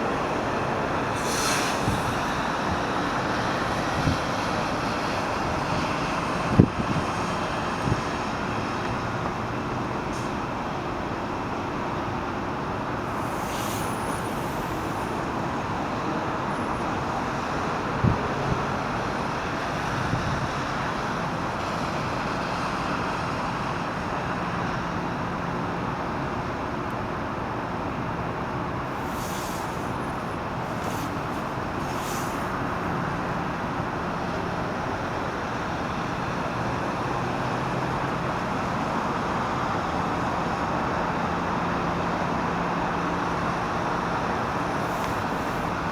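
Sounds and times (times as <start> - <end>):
vehicle noise roar: 0.0 - 45.9.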